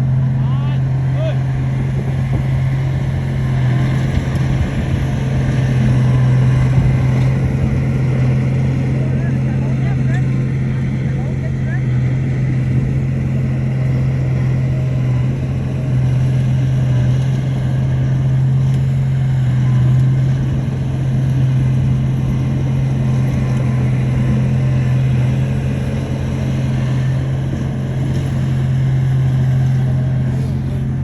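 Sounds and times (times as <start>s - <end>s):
bulldozer engine droning: 0.0s - 31.0s.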